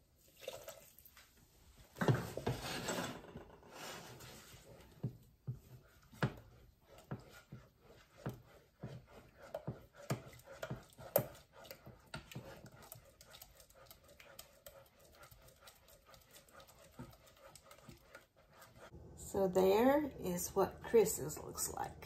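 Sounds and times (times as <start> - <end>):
spatula scraping a pot: 2.0 - 22.0.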